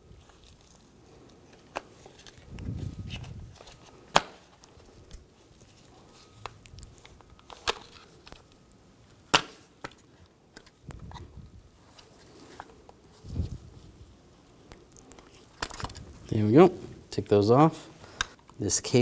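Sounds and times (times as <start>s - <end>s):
soft handling noise: 0.0s - 19.0s.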